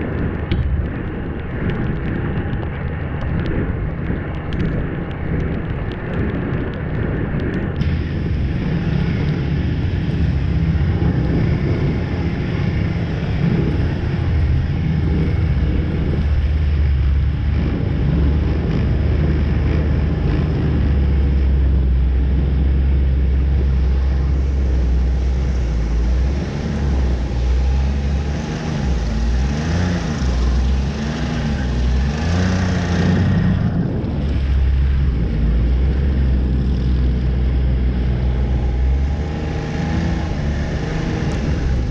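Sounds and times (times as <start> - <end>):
snowmobile engine running: 0.0 - 41.9.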